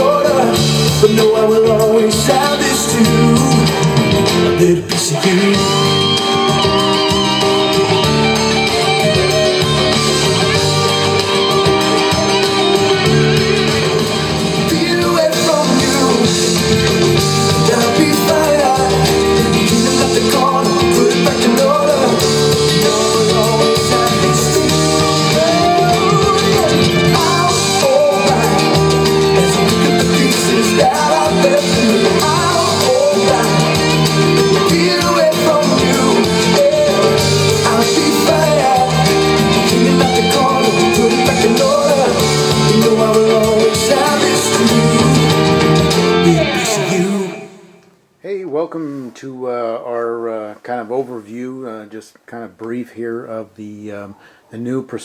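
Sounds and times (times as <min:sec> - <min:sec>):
pop-rock song with guitar and singing: 0:00.0 - 0:47.8.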